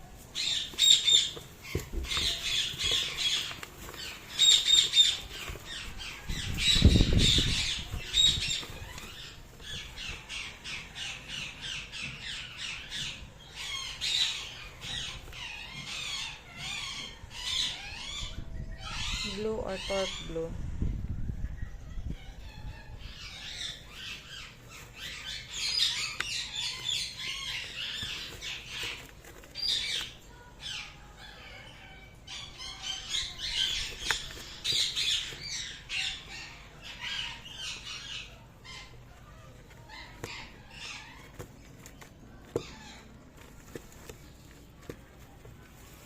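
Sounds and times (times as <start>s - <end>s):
parrots squawking and chattering: 0.0s - 20.5s, 21.6s - 46.0s.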